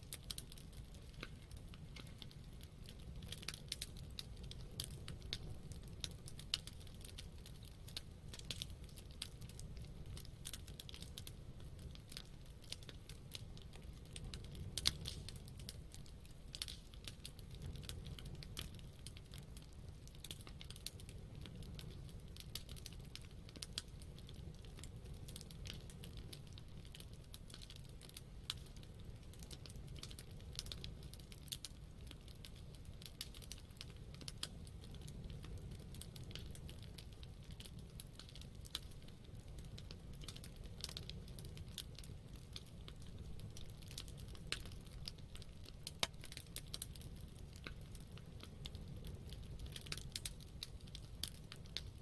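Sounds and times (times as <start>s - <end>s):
campfire crackling and popping: 0.0s - 52.0s.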